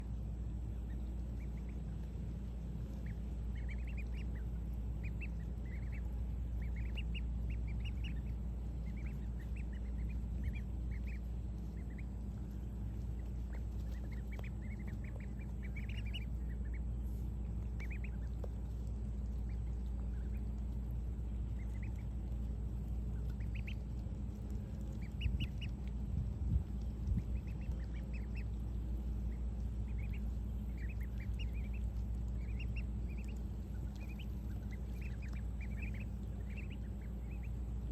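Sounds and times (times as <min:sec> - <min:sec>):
ducklings peeping: 0:00.0 - 0:37.9
steady low hum: 0:00.0 - 0:37.9.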